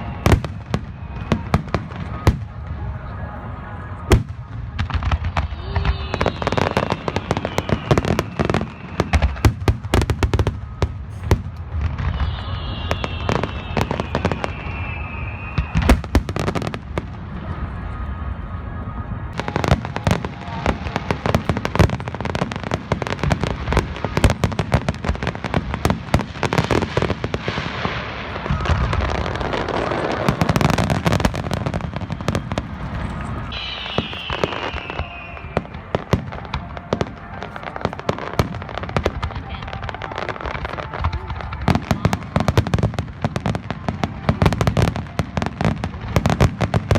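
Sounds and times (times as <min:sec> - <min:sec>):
fireworks bursting and crackling: 0:00.0 - 0:18.3, 0:19.2 - 0:46.9
fireworks falling whistles: 0:00.0 - 0:46.9.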